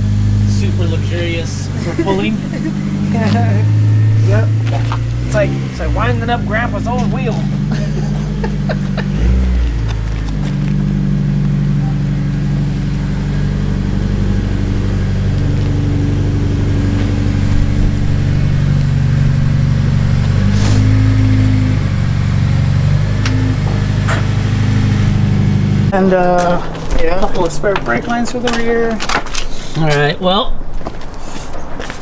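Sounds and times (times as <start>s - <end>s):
car engine idling: 0.0s - 31.8s.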